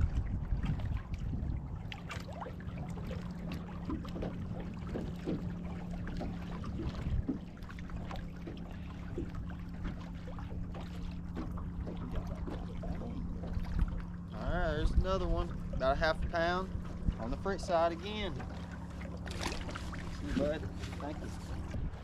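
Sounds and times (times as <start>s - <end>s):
steady low hum: 0.0s - 22.0s
water lapping against boat hull: 0.0s - 22.0s.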